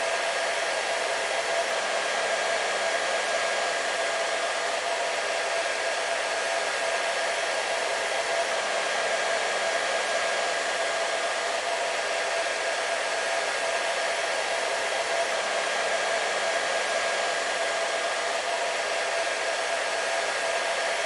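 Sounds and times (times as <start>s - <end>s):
hair dryer blowing and whining: 0.0s - 21.0s.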